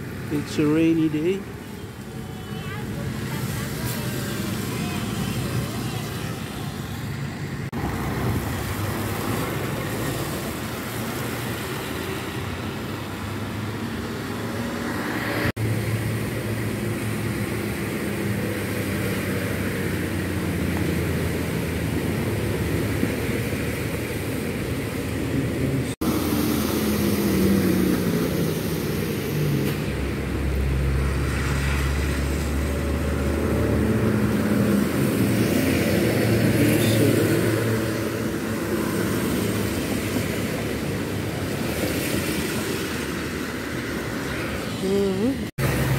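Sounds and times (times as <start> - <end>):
vehicles passing on wet road: 0.0 - 45.9.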